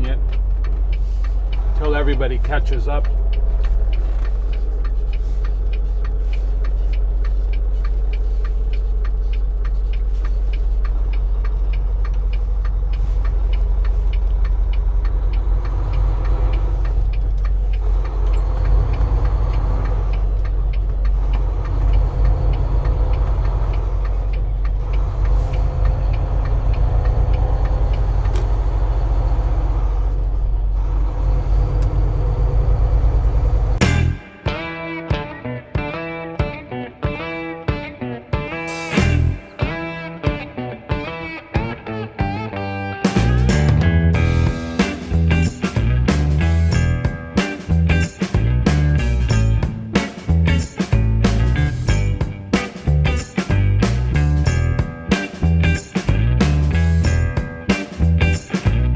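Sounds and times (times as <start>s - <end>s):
truck engine drone and road noise: 0.0s - 58.9s.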